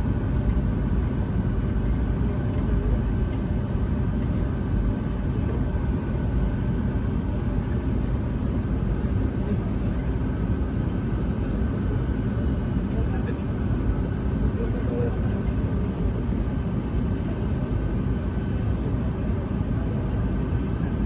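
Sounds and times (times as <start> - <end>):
jet engine cabin rumble: 0.0 - 21.0.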